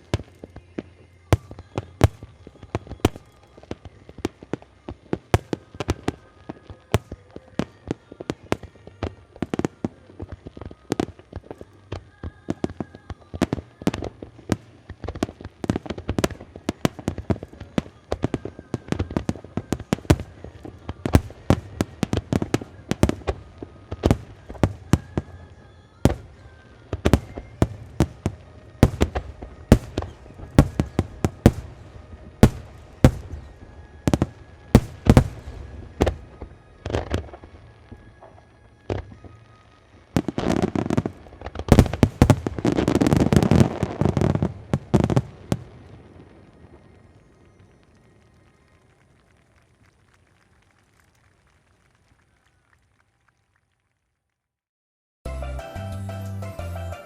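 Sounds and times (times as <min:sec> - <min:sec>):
fireworks bursting: 0:00.0 - 0:52.4.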